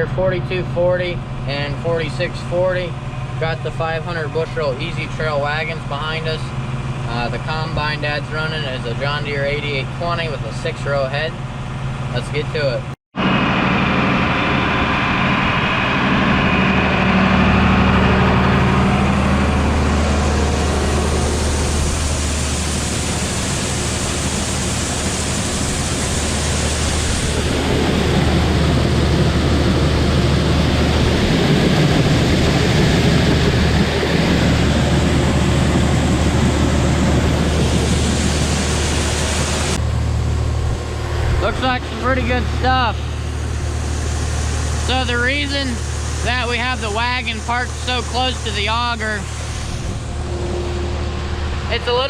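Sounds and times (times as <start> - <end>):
diesel farm machinery running: 0.0 - 52.0.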